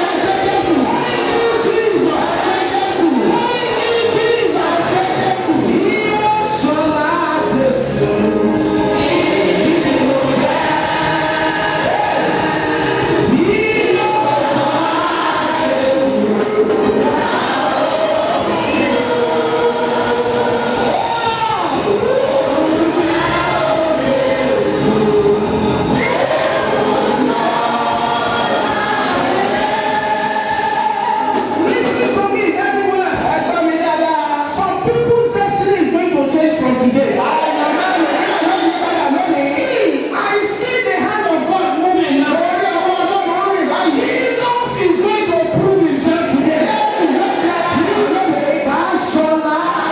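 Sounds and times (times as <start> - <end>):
choir singing gospel music: 0.0 - 49.9.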